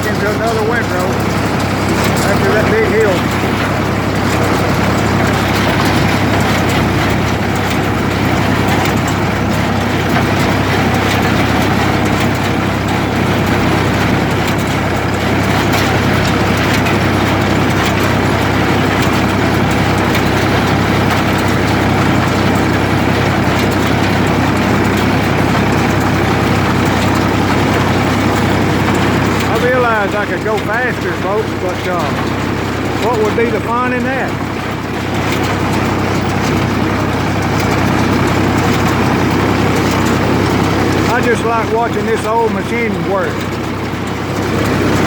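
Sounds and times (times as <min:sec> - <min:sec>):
baler mechanism working: 0:00.0 - 0:45.0
tractor engine running under load: 0:00.0 - 0:45.0.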